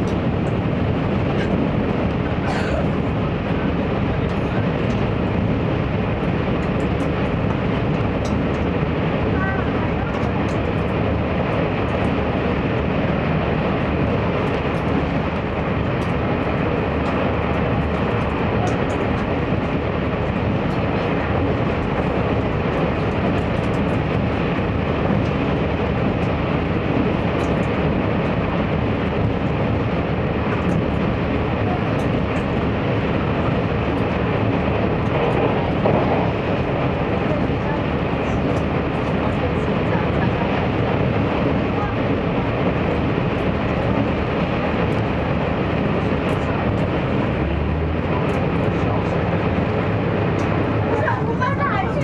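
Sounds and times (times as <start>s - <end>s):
diesel engine drone: 0.0s - 52.0s
train wheels rumbling on rails: 0.0s - 52.0s.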